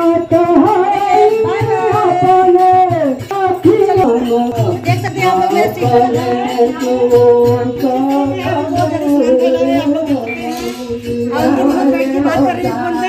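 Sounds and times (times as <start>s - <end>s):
drum beat: 0.0s - 13.0s
tambourine jingling: 0.0s - 13.0s
voices singing: 0.0s - 13.0s.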